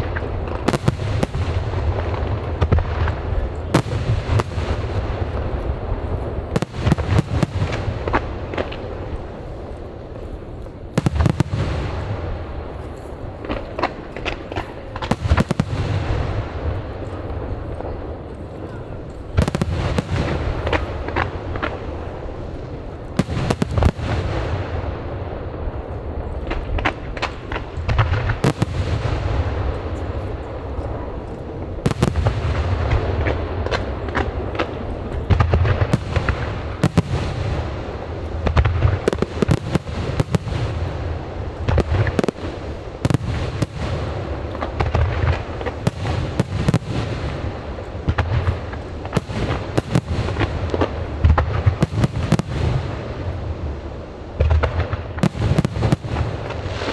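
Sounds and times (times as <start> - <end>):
firework crackling: 0.0 - 56.9.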